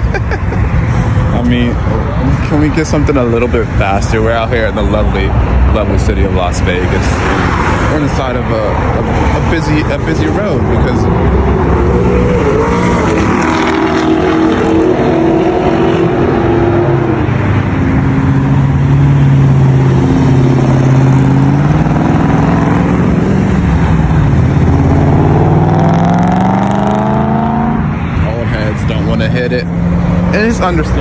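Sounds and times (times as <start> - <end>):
sports car engine: 0.0 - 31.0.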